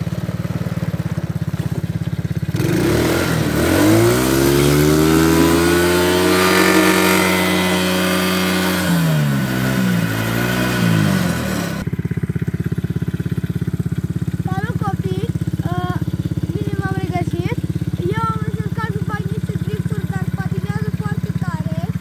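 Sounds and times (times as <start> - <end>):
quad engine revving: 0.0 - 22.0.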